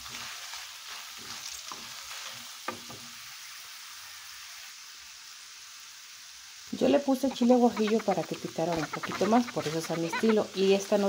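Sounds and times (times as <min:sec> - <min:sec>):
food sizzling in oil in a pan: 0:00.0 - 0:11.0.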